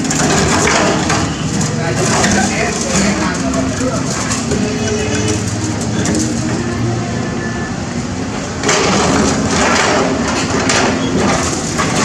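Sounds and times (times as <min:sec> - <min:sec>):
concrete crunching and scraping: 0:00.0 - 0:06.8, 0:08.6 - 0:12.0
excavator diesel engine running: 0:00.0 - 0:12.0.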